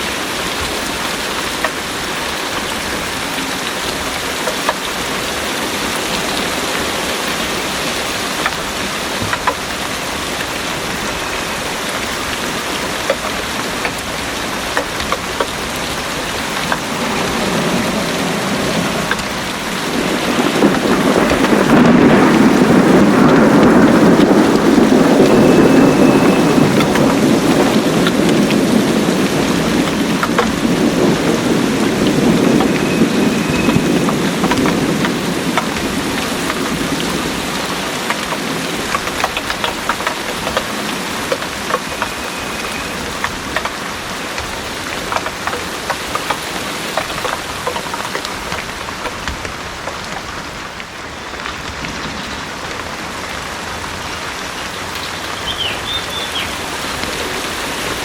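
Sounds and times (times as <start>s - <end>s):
heavy rain pouring: 0.0s - 58.0s
raindrops ticking close by: 0.0s - 58.0s
thunder rumbling: 0.0s - 58.0s.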